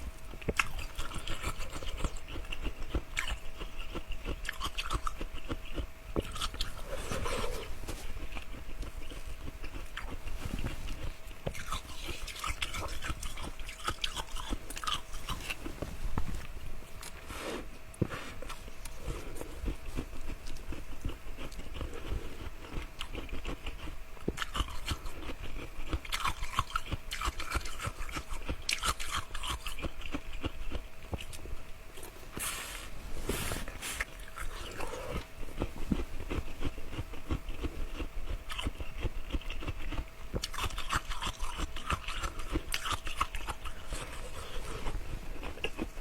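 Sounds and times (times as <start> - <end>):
person chewing ice: 0.0 - 17.7, 18.3 - 32.1, 34.0 - 46.0.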